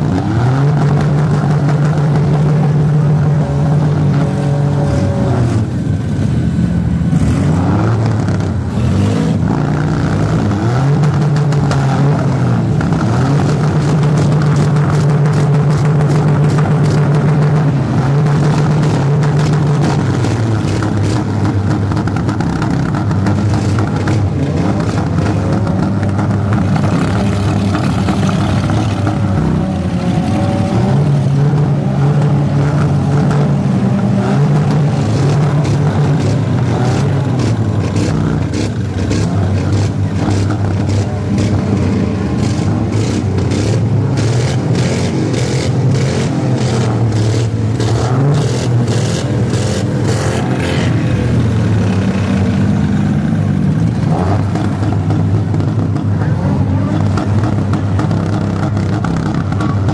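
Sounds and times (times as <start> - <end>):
engines running and revving: 0.0 - 59.9.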